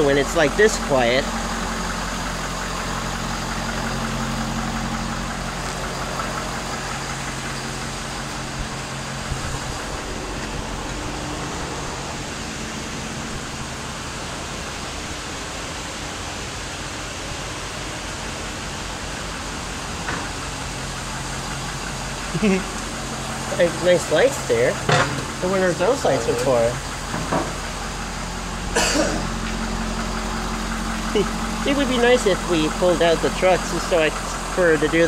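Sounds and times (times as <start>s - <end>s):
diesel engine idling quietly: 0.0s - 35.0s.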